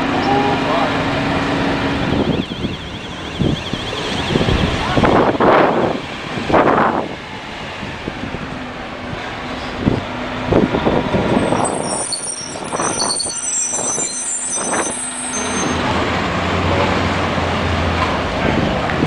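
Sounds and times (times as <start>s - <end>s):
low bus engine drone: 0.0s - 19.0s.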